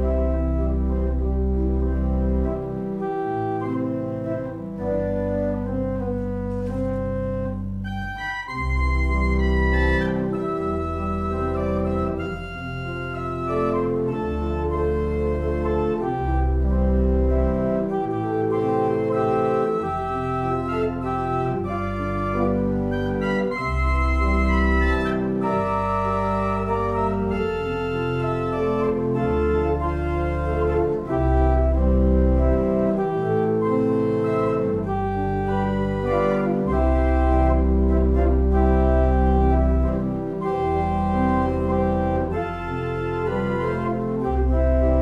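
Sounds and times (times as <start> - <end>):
deep bass pedal notes: 0.0 - 45.0
organ chords: 0.0 - 45.0.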